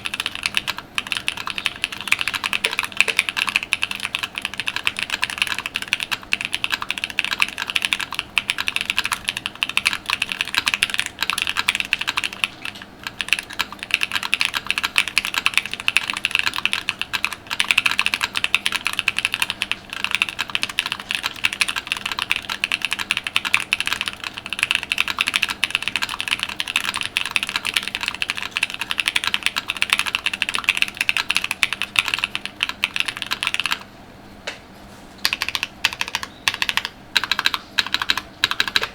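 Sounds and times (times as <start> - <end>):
mechanical keyboard typing: 0.0 - 33.9, 35.2 - 38.9.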